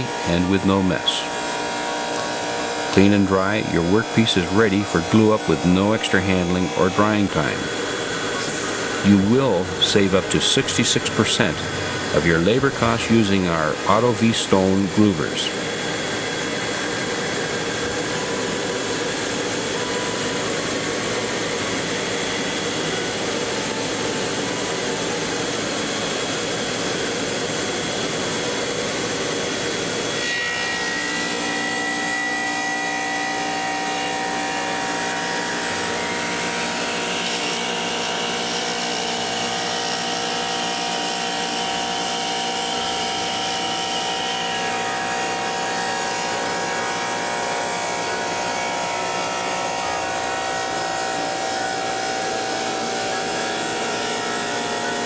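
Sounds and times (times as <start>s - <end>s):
steady whining tones: 0.0s - 55.0s
stone cutter machining stone: 0.0s - 55.0s.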